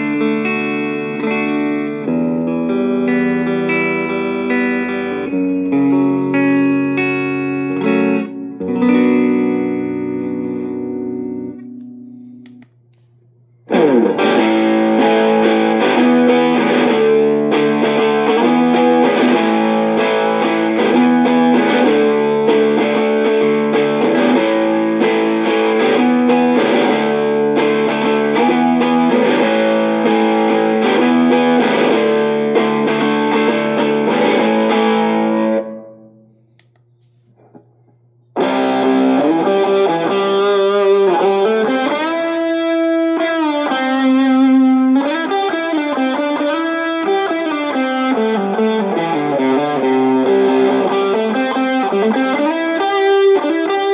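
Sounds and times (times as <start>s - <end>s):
distorted electric guitar: 0.0s - 36.5s, 37.4s - 53.9s.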